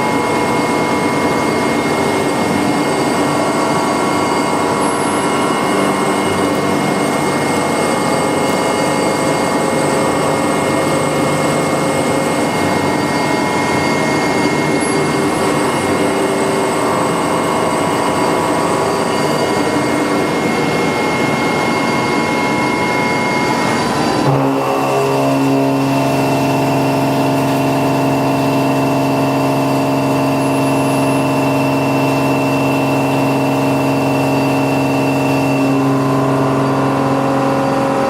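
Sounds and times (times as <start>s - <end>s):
milling machine cutting metal: 0.0s - 37.8s.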